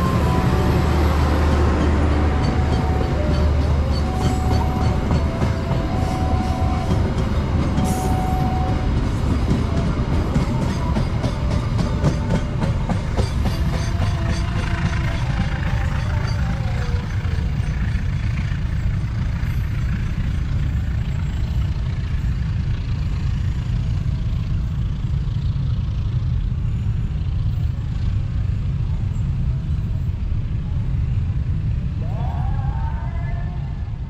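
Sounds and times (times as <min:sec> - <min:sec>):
low rumble of passing vehicles: 0:00.0 - 0:34.0.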